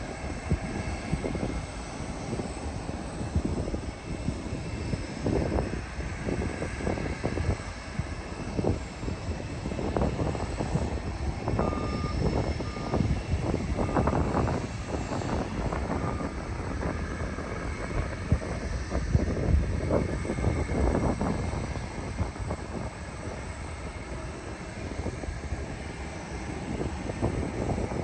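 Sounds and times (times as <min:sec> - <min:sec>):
jet airliner engines rumbling: 0:00.0 - 0:28.0.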